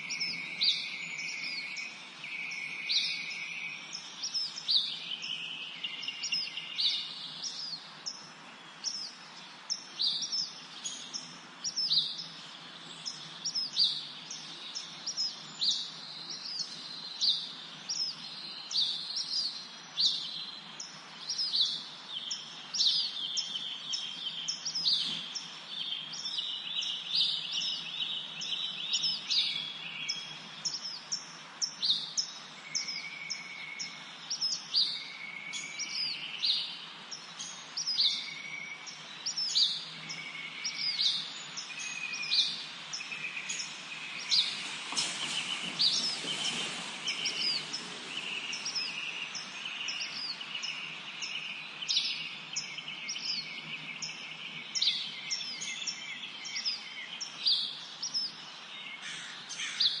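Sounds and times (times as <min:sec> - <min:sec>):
soft background hiss: 0:00.0 - 0:59.9
songbirds chirping: 0:00.0 - 1:00.0.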